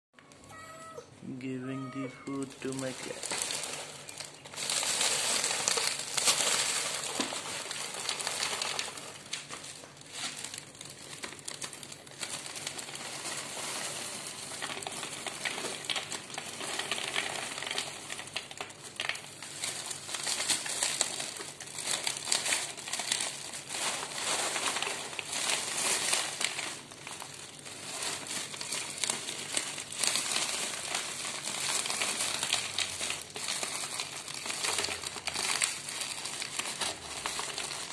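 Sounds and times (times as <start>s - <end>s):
plastic bag crinkling: 0.2s - 37.9s.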